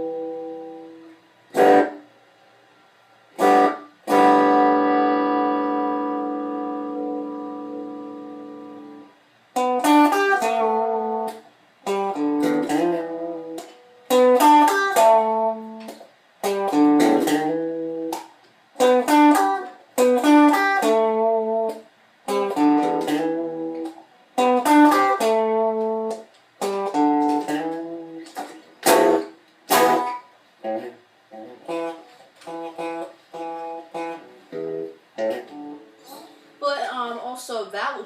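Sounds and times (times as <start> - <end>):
electric guitar chords: 0.0 - 2.2, 3.3 - 36.6.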